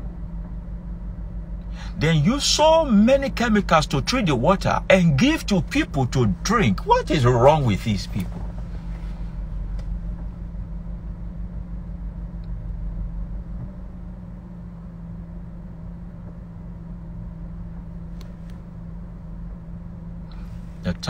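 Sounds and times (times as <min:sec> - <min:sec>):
car engine hum inside cabin: 0:00.0 - 0:21.0.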